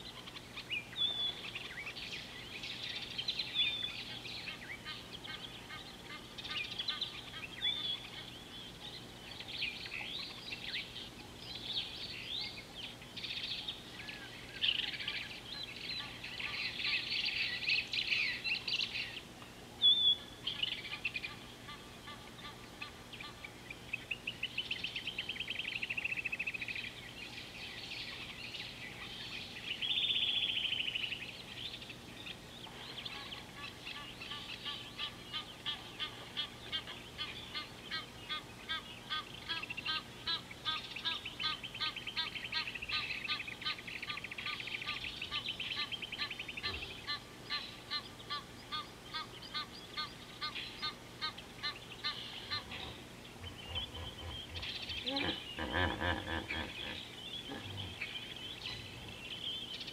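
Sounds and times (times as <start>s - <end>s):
birds buzzy trills: 0.0s - 59.9s
repeated bird calls: 0.0s - 59.9s.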